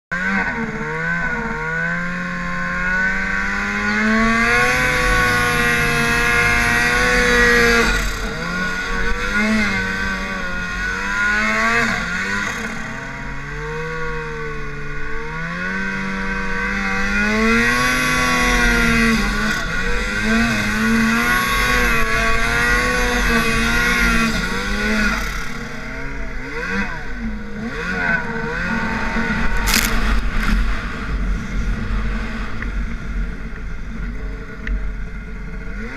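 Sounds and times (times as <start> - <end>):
snowmobile engine revving: 0.1 - 35.9.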